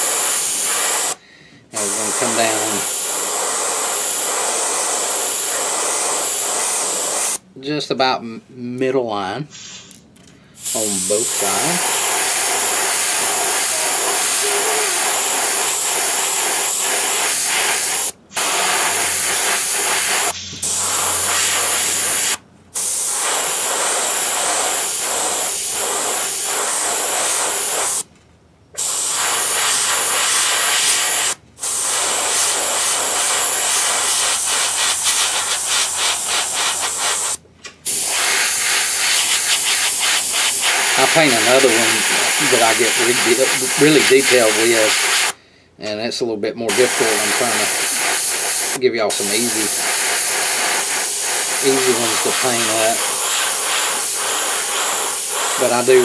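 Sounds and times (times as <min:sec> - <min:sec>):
airbrush spraying hiss: 0:00.0 - 0:07.4, 0:09.5 - 0:10.0, 0:10.6 - 0:28.1, 0:28.8 - 0:45.4, 0:46.7 - 0:56.0.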